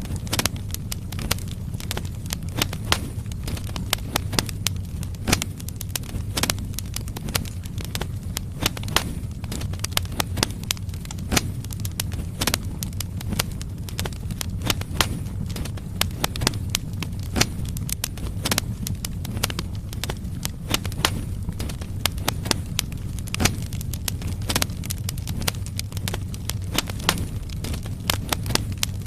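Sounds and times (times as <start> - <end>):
logs crackling and popping: 0.0 - 29.0
low rumble of flames: 0.0 - 29.0.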